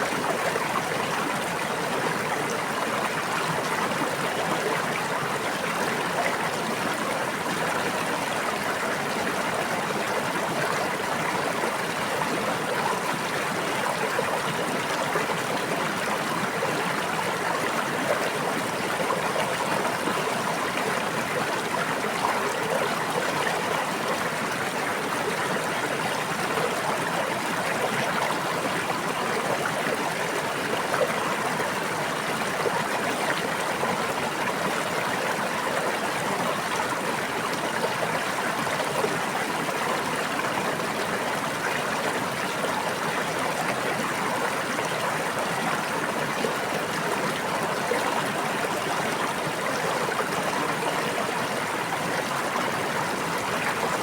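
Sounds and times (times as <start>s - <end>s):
brook water babbling: 0.0s - 54.0s.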